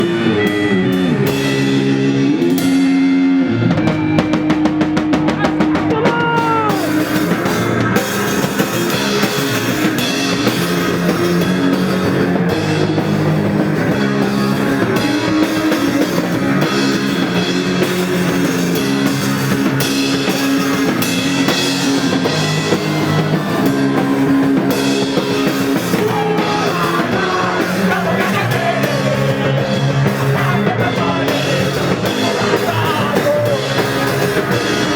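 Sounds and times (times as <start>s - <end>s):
electric guitar: 0.0s - 34.9s
rock drum kit: 0.0s - 34.9s.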